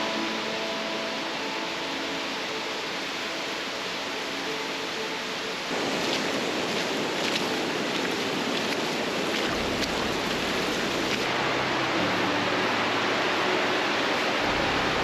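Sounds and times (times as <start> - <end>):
creek water rushing over rock: 0.0 - 15.0.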